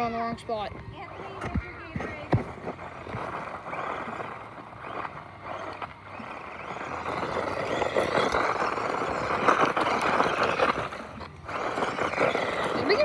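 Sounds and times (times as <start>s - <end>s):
radio-controlled car whirring: 0.0s - 13.0s.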